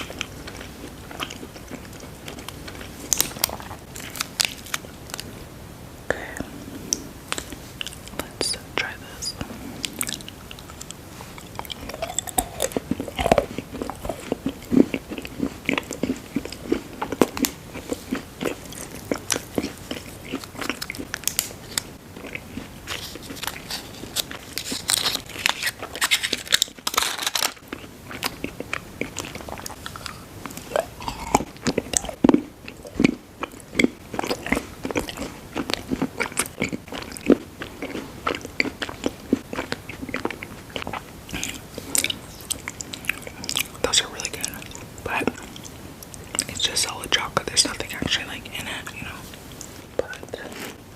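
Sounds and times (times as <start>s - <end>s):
person chewing crunchy food: 0.0s - 5.4s, 6.4s - 50.9s.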